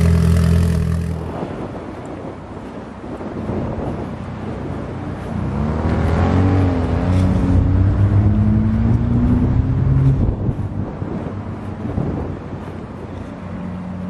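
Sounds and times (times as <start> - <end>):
car engine accelerating: 0.0 - 1.9, 4.3 - 14.0.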